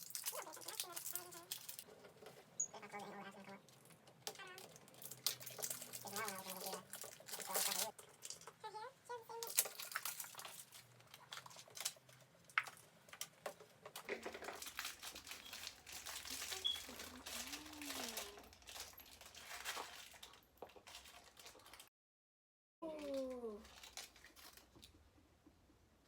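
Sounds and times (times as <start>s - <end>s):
plastic wrapping crinkling: 0.0s - 8.6s, 9.3s - 21.9s, 22.8s - 25.1s.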